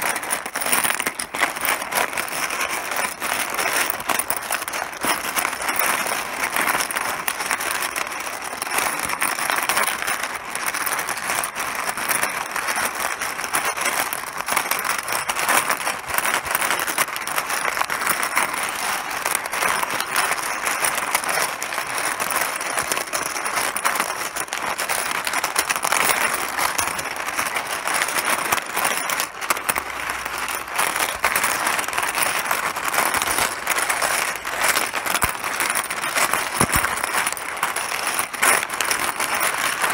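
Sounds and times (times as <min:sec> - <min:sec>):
mahjong tiles clattering: 0:00.0 - 0:39.9.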